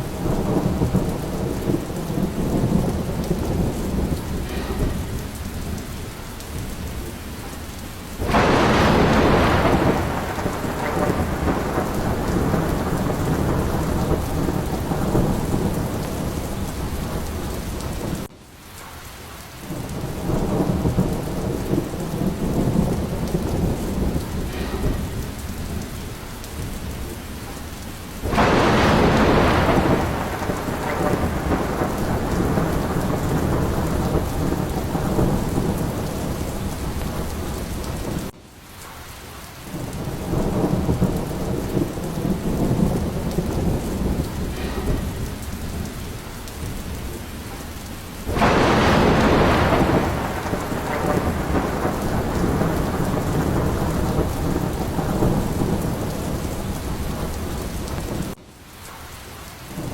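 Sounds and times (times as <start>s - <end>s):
rolling thunder: 0.0s - 18.3s, 19.7s - 39.0s, 39.7s - 58.4s
sharp thunderclap: 0.0s - 18.3s, 19.7s - 39.0s, 39.7s - 58.4s
steady rain: 0.0s - 59.9s.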